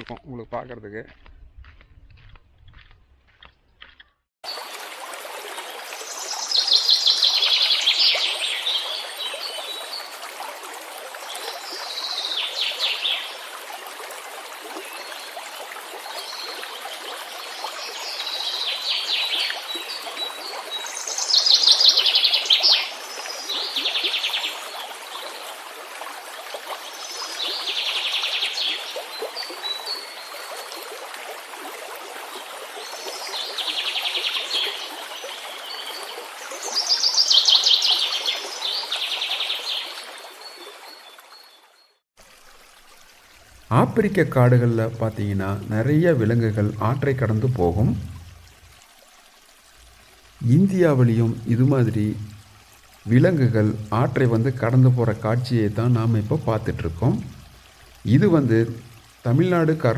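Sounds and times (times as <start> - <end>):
running water: 4.4 - 59.9.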